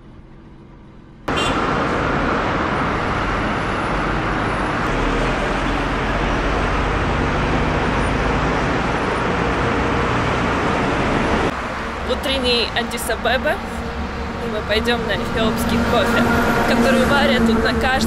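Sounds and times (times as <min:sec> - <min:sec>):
city traffic noise: 0:00.0 - 0:18.0.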